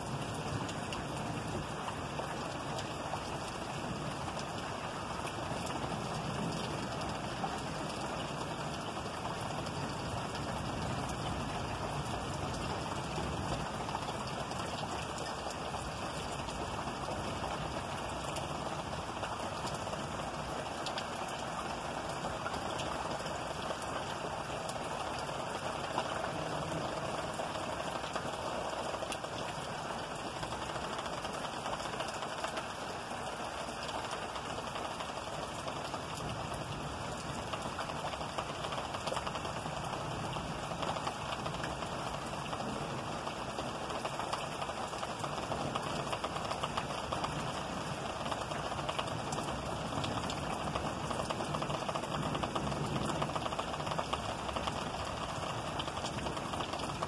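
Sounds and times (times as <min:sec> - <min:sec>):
steady rain hiss: 0:00.0 - 0:57.0
raindrop ticks: 0:00.1 - 0:57.0.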